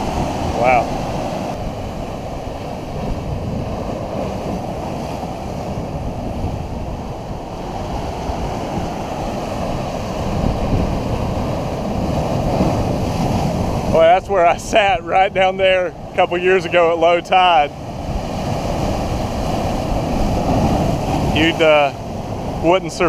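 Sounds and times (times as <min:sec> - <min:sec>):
foaming water rushing: 0:00.0 - 0:23.0
ocean swell breaking over rocks: 0:00.0 - 0:23.0.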